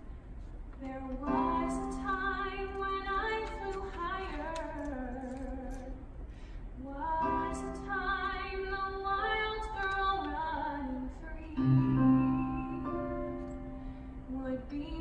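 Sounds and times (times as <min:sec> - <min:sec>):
woman singing: 0:00.8 - 0:06.0, 0:06.8 - 0:13.6, 0:14.3 - 0:15.0.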